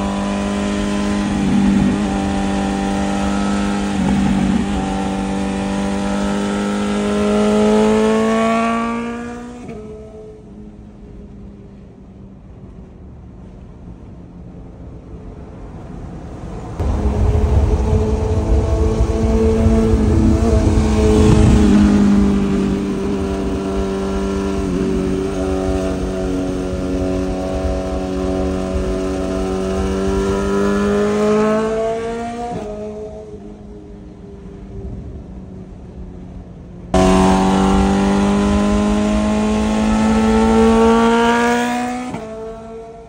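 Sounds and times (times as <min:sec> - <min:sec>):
motorcycle engine at road speed: 0:00.0 - 0:14.5, 0:16.4 - 0:43.0.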